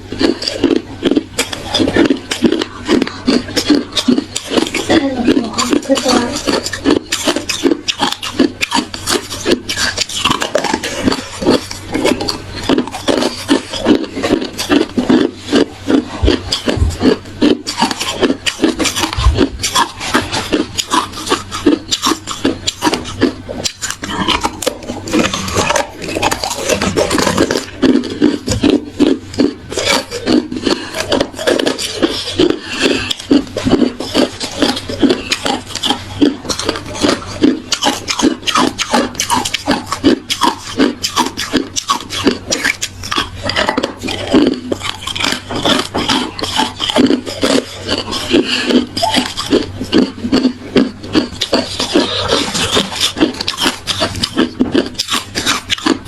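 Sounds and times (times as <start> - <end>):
chewing ice crunches: 0.0 - 56.0.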